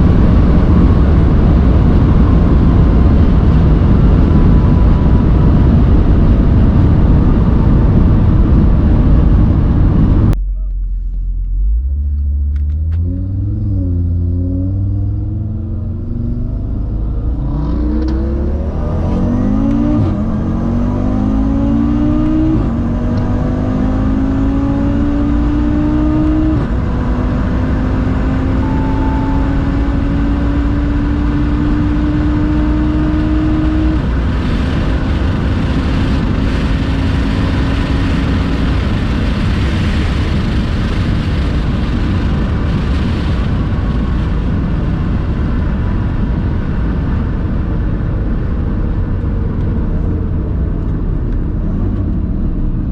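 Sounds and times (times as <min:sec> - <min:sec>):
car engine accelerating through gears: 0:00.0 - 0:52.9
wind and road noise: 0:00.0 - 0:52.9.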